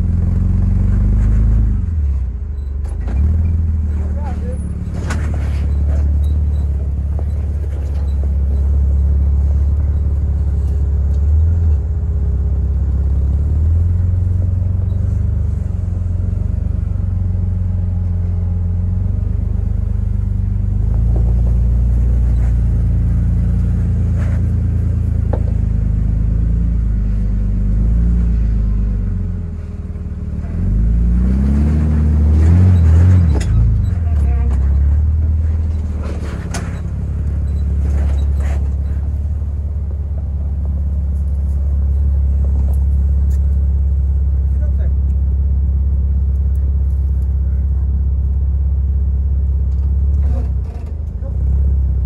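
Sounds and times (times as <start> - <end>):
engine running and revving: 0.0 - 52.0.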